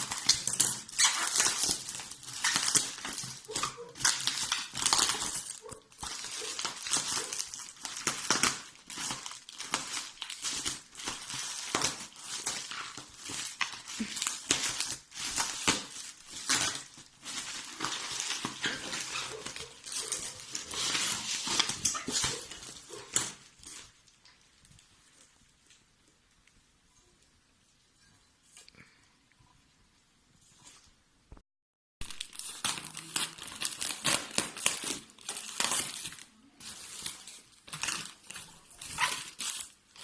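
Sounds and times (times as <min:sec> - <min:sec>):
packaging rustling and crinkling: 0:00.0 - 0:25.8, 0:32.0 - 0:40.0.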